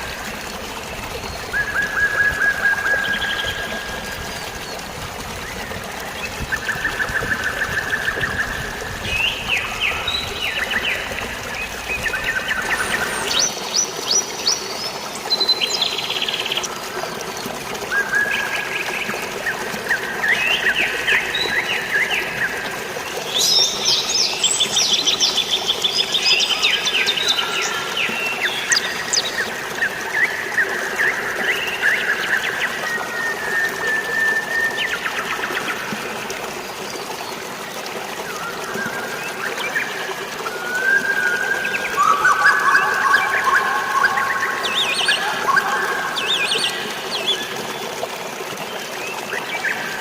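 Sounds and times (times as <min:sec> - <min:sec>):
falling water rushing: 0:00.0 - 0:50.0.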